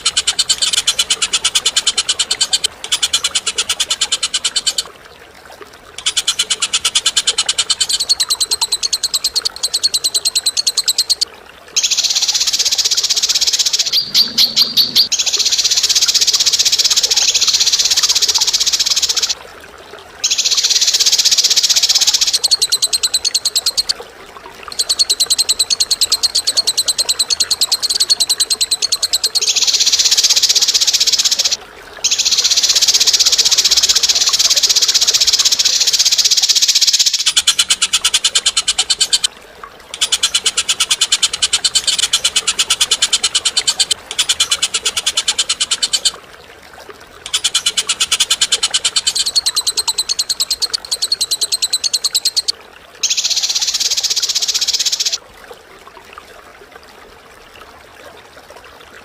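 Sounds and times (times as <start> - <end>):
harsh rattling bird calls: 0.0 - 4.9, 6.0 - 11.2, 11.8 - 19.4, 20.2 - 24.0, 24.7 - 39.3, 39.9 - 46.2, 47.2 - 55.2.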